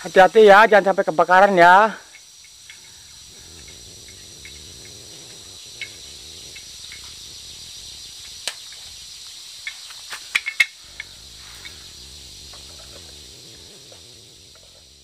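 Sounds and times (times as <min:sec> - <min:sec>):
forest insects droning: 0:00.0 - 0:15.0.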